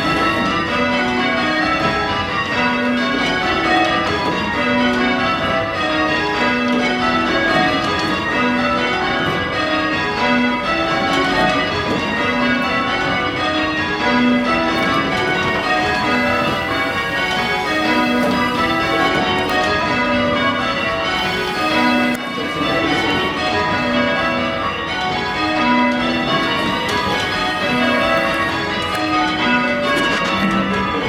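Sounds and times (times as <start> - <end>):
tower bells change ringing: 0.0 - 31.0.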